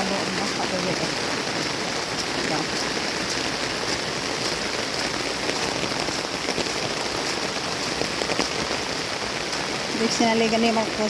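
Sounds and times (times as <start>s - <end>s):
drips and splashes: 0.0s - 11.0s
heavy rain pouring: 0.0s - 11.0s.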